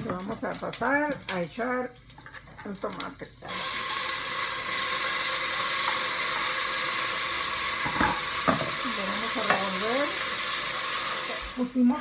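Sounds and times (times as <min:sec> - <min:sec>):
tomato sizzling in hot oil: 0:00.0 - 0:12.0.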